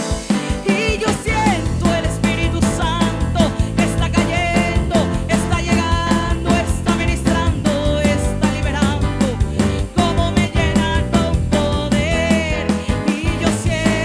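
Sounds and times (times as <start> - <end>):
upbeat praise music by band: 0.0 - 14.0.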